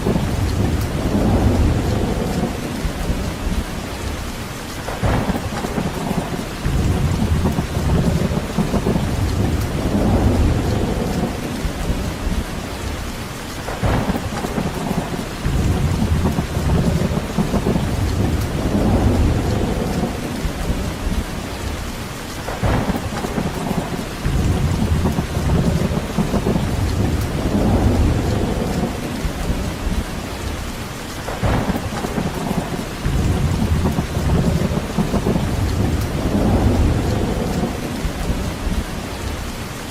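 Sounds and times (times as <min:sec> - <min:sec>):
deep rumble: 0:00.0 - 0:04.2, 0:06.6 - 0:13.0, 0:13.8 - 0:21.8, 0:22.6 - 0:30.6, 0:31.4 - 0:39.4
steady rain: 0:00.0 - 0:39.9.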